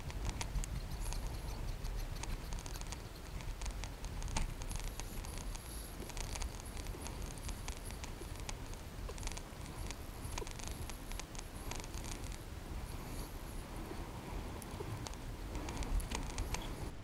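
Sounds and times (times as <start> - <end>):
small clicks and taps: 0.0 - 12.4, 14.6 - 16.8
wind rumble on microphone: 0.0 - 17.0.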